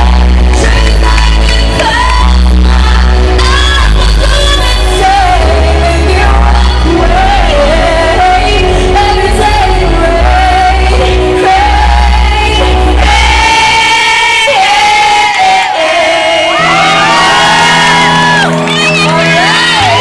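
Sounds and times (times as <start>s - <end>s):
backing track with heavy bass: 0.0s - 20.0s
person singing pop song: 0.0s - 20.0s.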